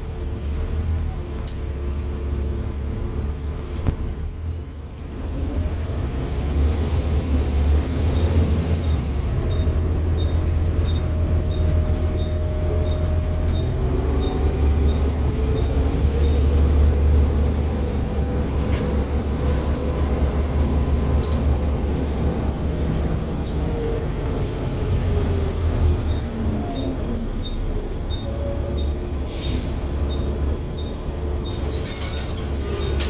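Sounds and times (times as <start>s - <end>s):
bus engine rumble: 0.0s - 33.0s.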